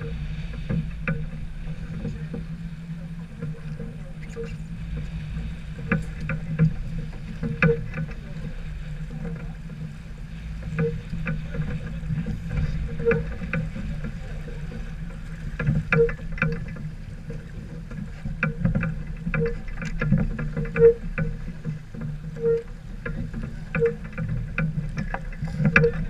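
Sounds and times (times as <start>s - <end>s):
sharp knocks and creaks: 0.0s - 26.0s
wind and water rumble: 0.0s - 26.0s.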